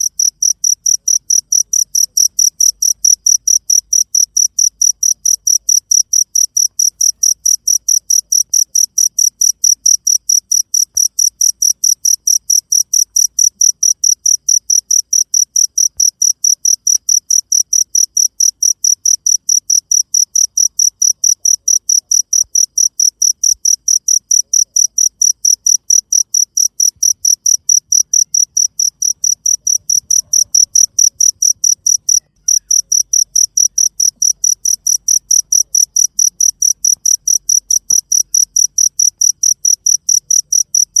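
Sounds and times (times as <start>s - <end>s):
cricket chirping: 0.0s - 41.0s.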